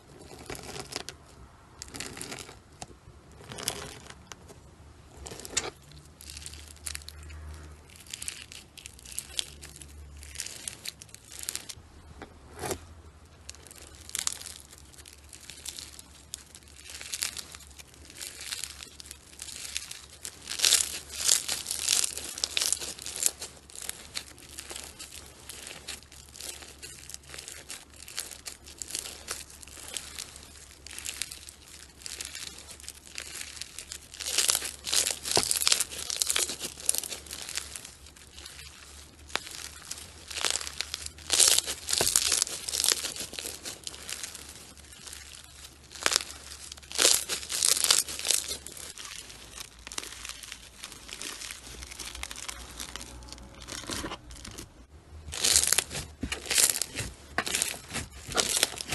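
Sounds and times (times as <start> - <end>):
bead-filled slime crackling: 0.0 - 58.9.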